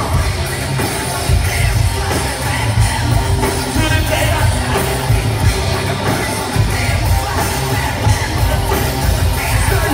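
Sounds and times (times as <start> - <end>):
live rap-rock band playing: 0.0 - 9.9.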